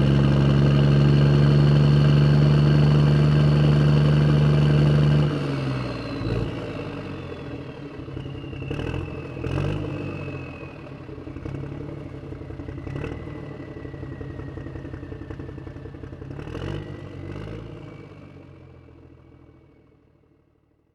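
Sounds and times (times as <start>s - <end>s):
vehicle engine driving off: 0.0s - 19.9s.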